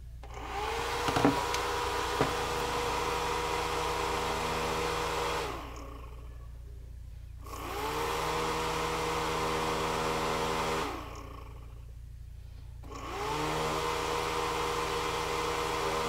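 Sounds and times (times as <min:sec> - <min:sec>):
small cooling fan whirring: 0:00.0 - 0:16.0.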